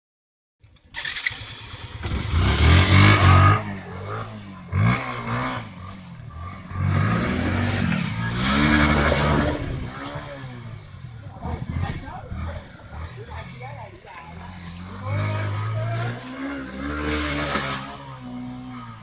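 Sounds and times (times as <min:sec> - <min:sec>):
motorcycle engine revving: 0:00.7 - 0:19.0.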